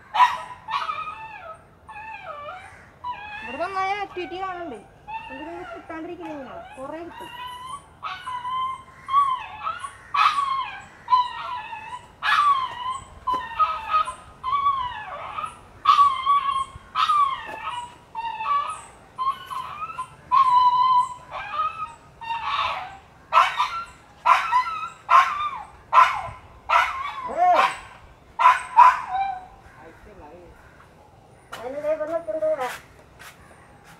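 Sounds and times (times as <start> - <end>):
dog yelping and whining: 0.2 - 29.6.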